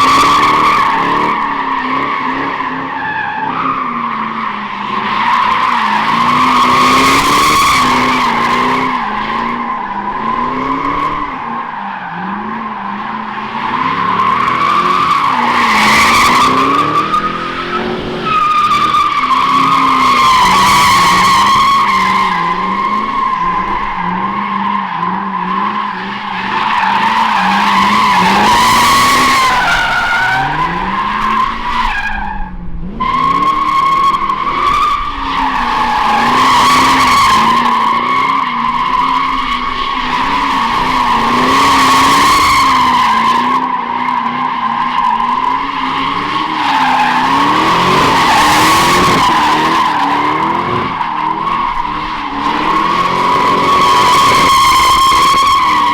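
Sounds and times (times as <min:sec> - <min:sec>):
car engine revving high: 0:00.0 - 0:55.9.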